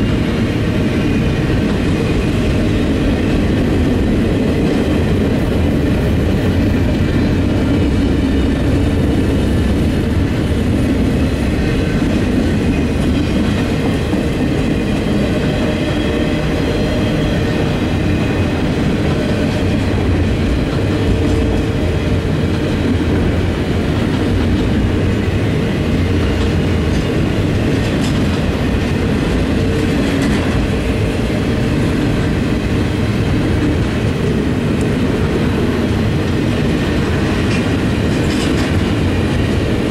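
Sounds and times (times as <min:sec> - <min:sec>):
freight train rumble and rattle: 0:00.0 - 0:39.9.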